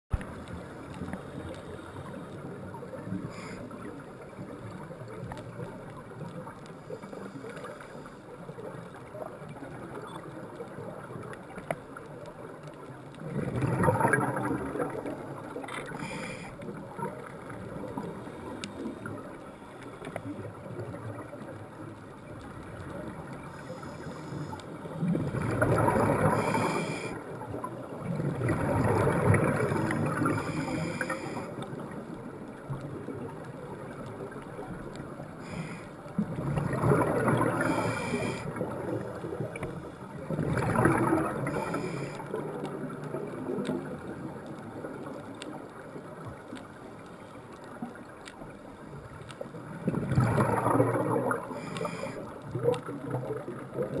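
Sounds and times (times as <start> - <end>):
exhaled bubbles underwater: 0.1 - 54.0
underwater background: 0.1 - 54.0.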